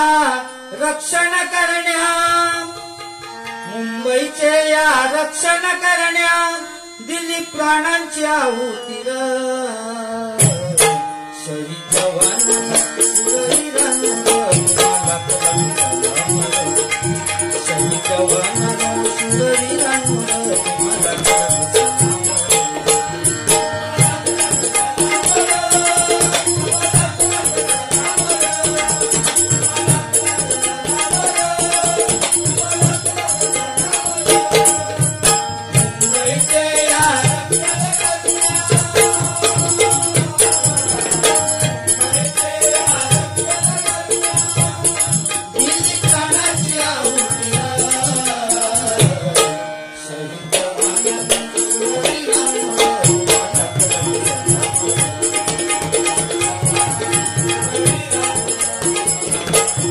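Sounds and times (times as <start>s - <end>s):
harmonium melody: 0.0s - 59.9s
high jingling percussion: 10.4s - 11.2s, 11.8s - 49.7s, 50.4s - 59.9s.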